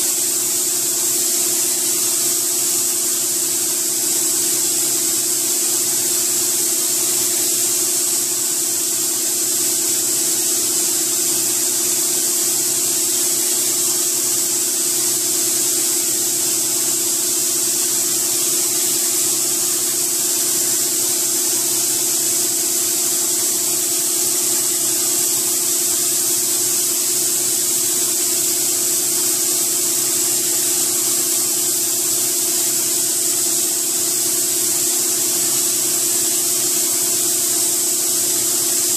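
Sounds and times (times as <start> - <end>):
spray gun air hissing: 0.0 - 38.9.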